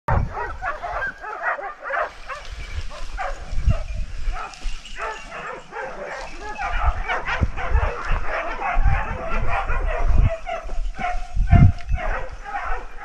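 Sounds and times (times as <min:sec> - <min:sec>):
dogs barking and baying: 0:00.1 - 0:13.0.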